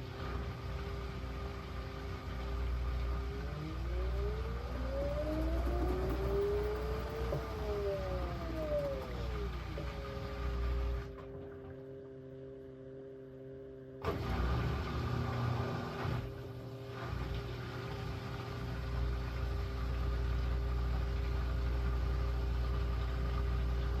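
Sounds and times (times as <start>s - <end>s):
low rumble of spinning drum: 0.0s - 12.2s, 16.2s - 24.0s
washing machine motor hum: 0.0s - 24.0s.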